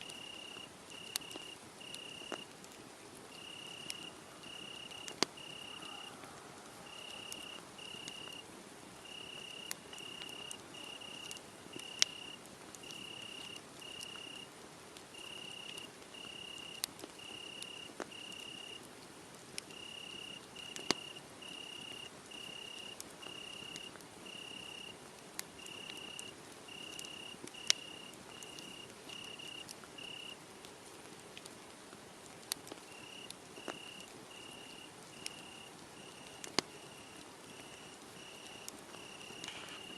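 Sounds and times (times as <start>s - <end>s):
cricket chirping: 0.0s - 2.5s, 3.4s - 8.4s, 9.0s - 14.5s, 15.2s - 18.8s, 19.7s - 25.0s, 25.6s - 30.4s, 32.9s - 39.9s
wood fire crackling: 0.0s - 39.9s.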